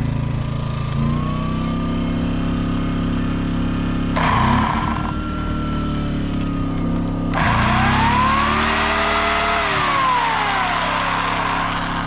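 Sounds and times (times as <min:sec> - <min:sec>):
small gas engine whining: 0:00.9 - 0:12.0.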